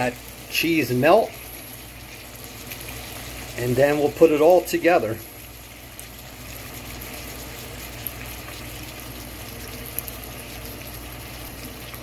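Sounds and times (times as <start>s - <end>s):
patties sizzling in a pan: 0.0s - 12.0s.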